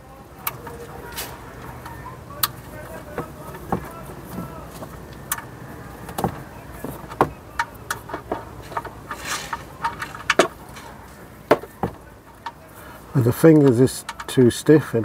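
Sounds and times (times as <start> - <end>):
ratchet clicks and metallic knocks: 1.6 - 12.6, 13.3 - 14.7.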